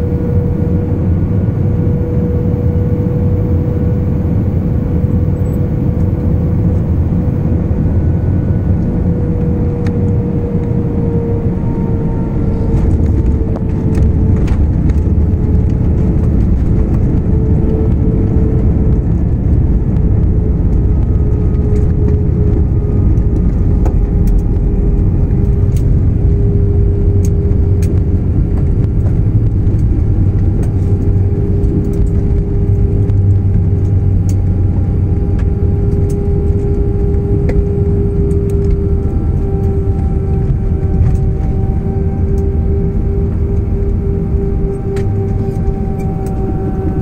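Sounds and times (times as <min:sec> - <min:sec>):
jet engine whine: 0:00.0 - 0:47.0
jet engines rumbling: 0:00.0 - 0:47.0.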